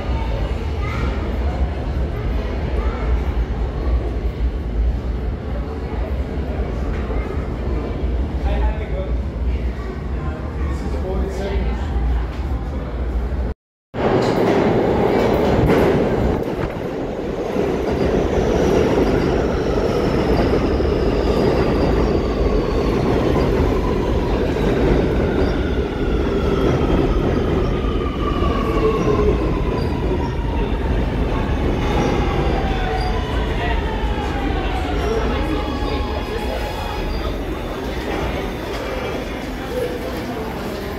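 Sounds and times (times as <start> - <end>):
subway wheels rumbling on rail: 0.0 - 40.9.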